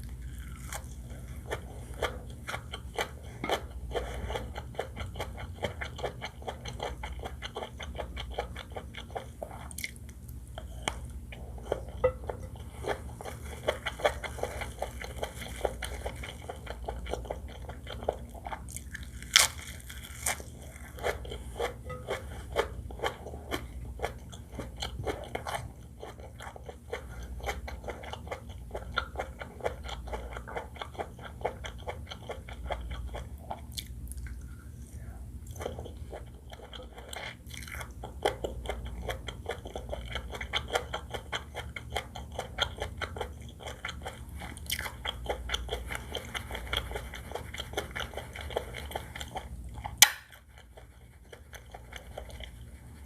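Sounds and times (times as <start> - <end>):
chewing and biting food: 0.0 - 53.0
steady low hum: 0.0 - 53.0.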